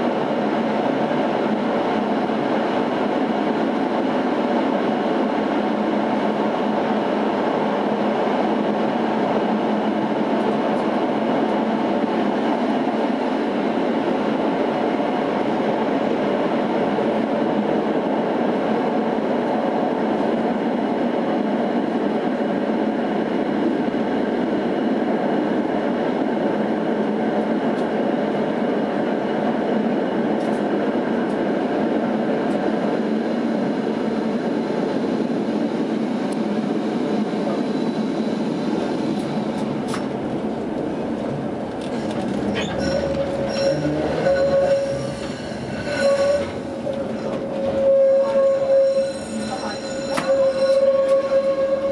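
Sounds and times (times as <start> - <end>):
tram wheels rumbling on rails: 0.0 - 51.9.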